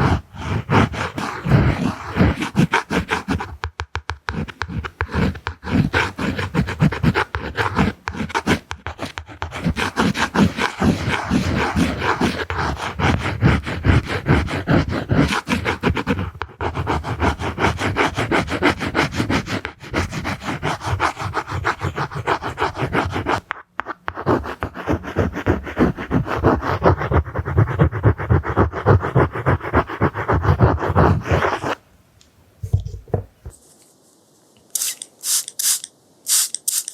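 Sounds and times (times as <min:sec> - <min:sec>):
close-up scratching and rubbing: 0:00.0 - 0:31.8.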